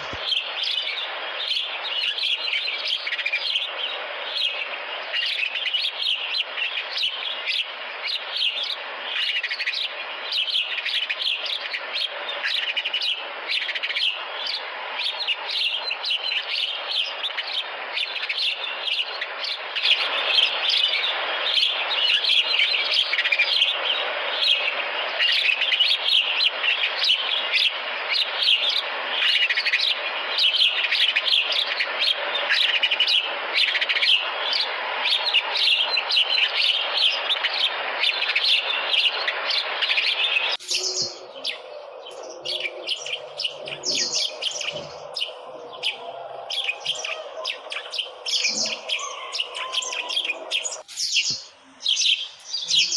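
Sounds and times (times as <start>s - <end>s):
sparrows chirping: 0.0s - 52.9s.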